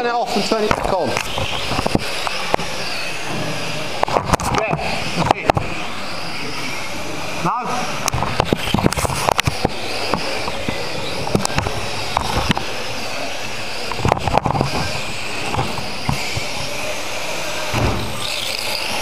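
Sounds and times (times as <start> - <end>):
whirring motors on carpet: 0.0 - 19.0.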